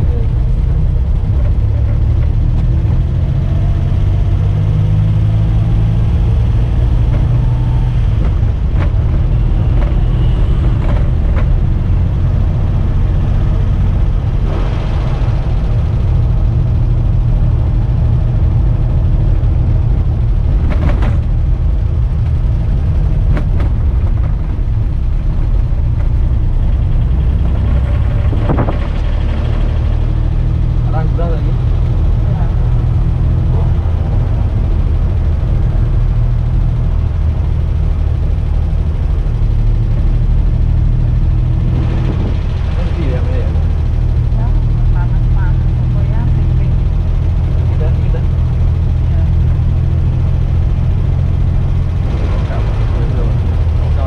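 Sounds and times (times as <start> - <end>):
low rumble of road noise: 0.0 - 54.0
small engine running steadily: 0.0 - 54.0.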